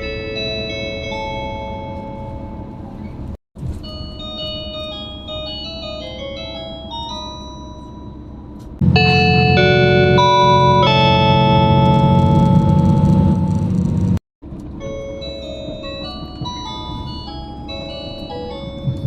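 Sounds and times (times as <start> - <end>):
electronic bell chime melodies: 0.0 - 2.9, 3.8 - 13.7, 14.8 - 19.0
train cabin running rumble: 0.0 - 19.0.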